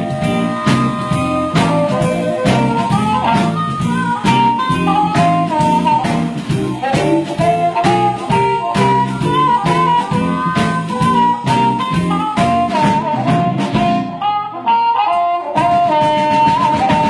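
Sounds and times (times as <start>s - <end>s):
steady drum beat: 0.0s - 14.2s, 15.4s - 17.0s
blues band playing: 0.0s - 17.0s
harmonica lead: 0.0s - 17.0s.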